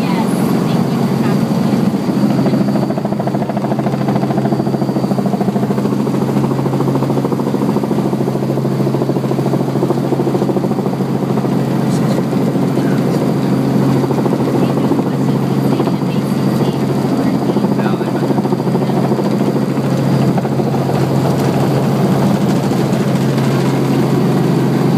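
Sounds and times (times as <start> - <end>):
helicopter engine and rotor: 0.0 - 24.9.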